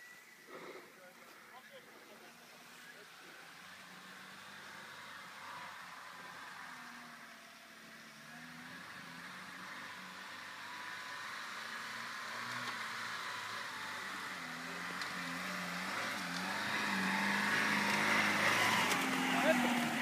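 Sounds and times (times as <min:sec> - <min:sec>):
car engine running under load: 0:01.1 - 0:20.0.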